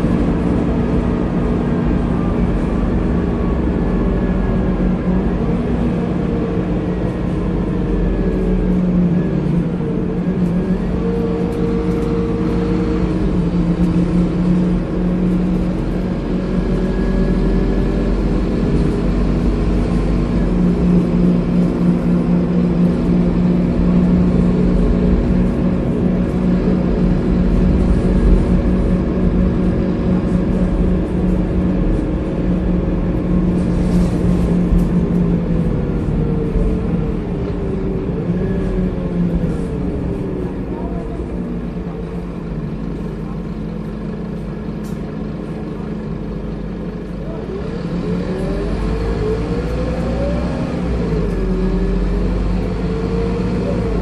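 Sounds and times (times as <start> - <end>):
bus engine drone from inside: 0.0 - 54.0.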